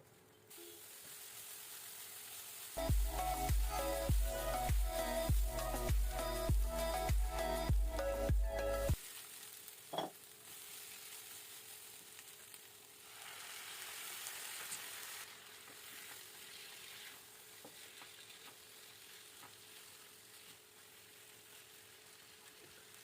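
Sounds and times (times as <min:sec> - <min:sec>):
meat frying with faint sizzle: 0:00.1 - 0:07.3, 0:08.9 - 0:23.0.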